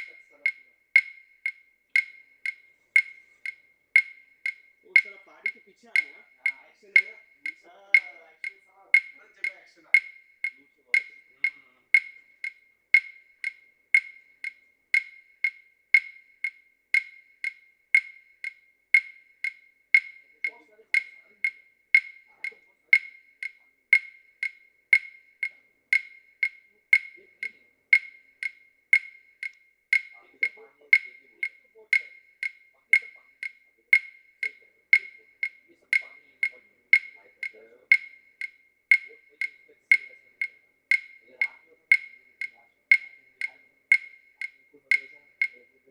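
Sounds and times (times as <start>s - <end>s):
wood-block-like ticking: 0.0s - 45.9s.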